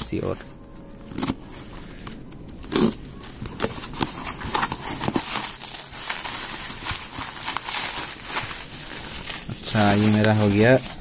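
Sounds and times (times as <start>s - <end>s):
bubble wrap crinkling: 0.1s - 11.0s.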